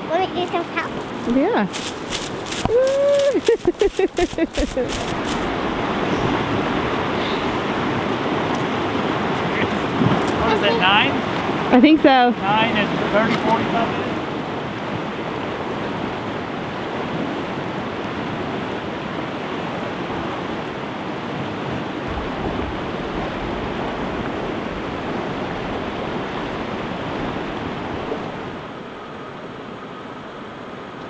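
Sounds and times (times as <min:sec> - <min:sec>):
river rushing over stones: 0:00.0 - 0:28.7.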